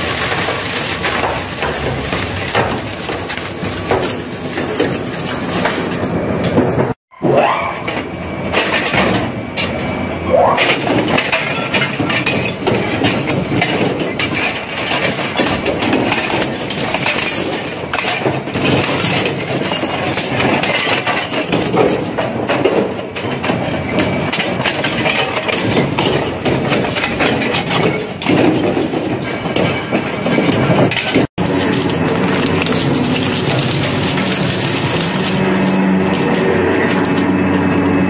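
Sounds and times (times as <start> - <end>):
metal shredder crunching scrap: 0.0 - 38.0.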